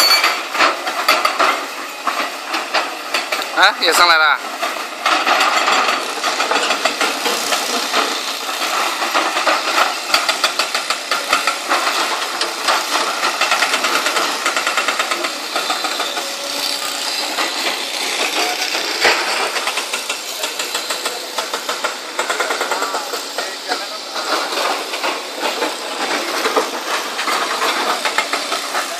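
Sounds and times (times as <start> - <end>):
hydraulic breaker hammering rock: 0.0 - 28.9
diesel engine running: 4.2 - 28.9.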